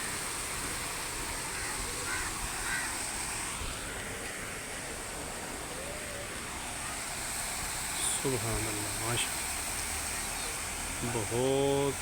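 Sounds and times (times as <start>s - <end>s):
water fountain splashing: 0.0s - 12.0s.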